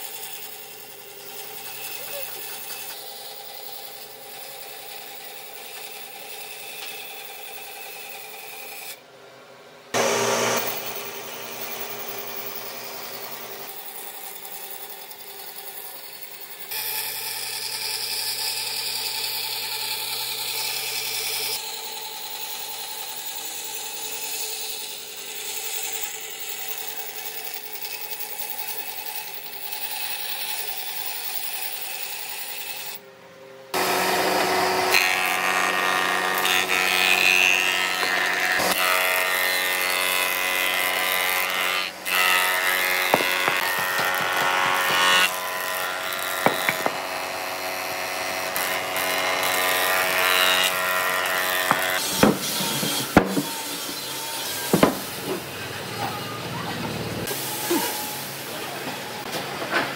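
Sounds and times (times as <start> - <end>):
band saw cutting wood: 0.0 - 9.0, 9.9 - 33.0, 33.7 - 59.2.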